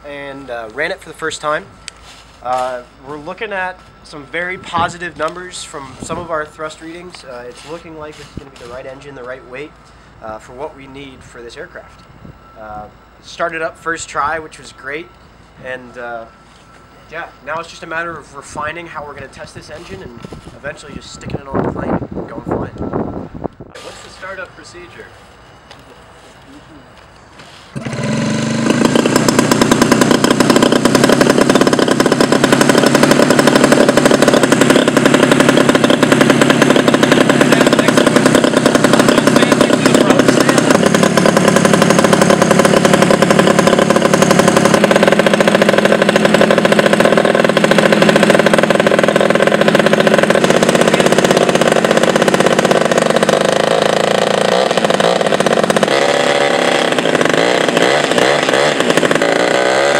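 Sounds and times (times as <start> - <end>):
small aircraft engine running: 0.0 - 59.9.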